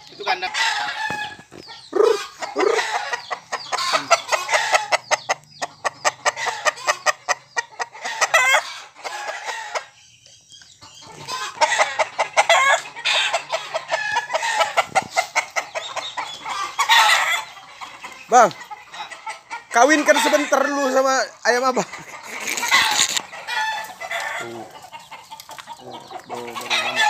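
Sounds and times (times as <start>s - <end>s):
roosters clucking and calling: 0.0s - 27.0s.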